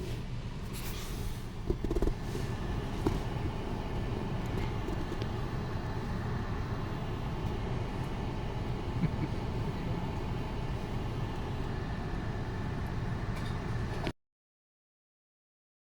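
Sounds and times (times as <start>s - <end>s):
road and engine noise inside vehicle: 0.0s - 14.2s.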